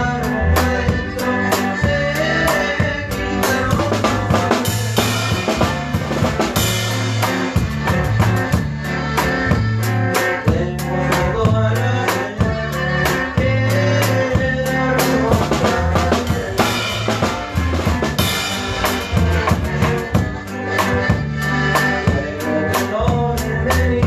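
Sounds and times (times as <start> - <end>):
drum kit beat: 0.0 - 24.0
live instrumental band music: 0.0 - 24.0
walking bass line: 0.0 - 24.0.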